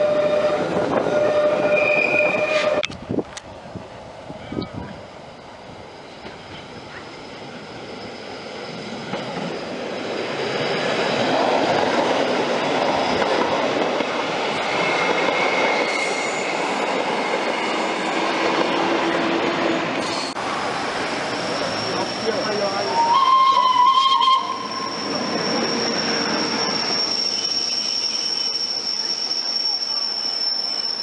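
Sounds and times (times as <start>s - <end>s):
wheels squealing: 0.0s - 2.9s, 5.0s - 20.4s, 21.2s - 31.0s
electric train rolling past: 0.0s - 31.0s.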